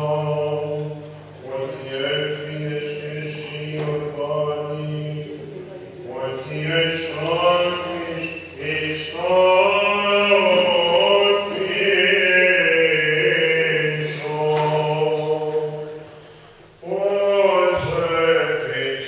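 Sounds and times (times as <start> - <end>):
man chanting a melodic line: 0.0 - 16.2, 16.8 - 19.0.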